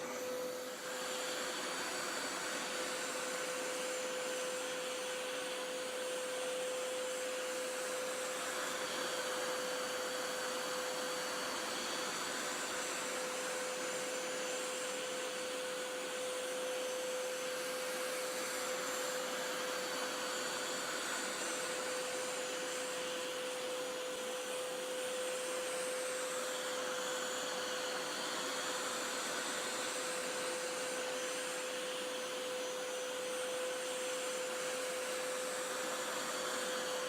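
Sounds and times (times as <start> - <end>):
carpet washer running: 0.0 - 37.0.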